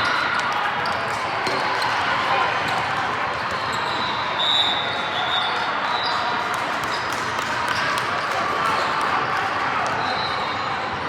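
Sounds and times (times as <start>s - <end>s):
murmur of crowd and players: 0.0s - 11.0s.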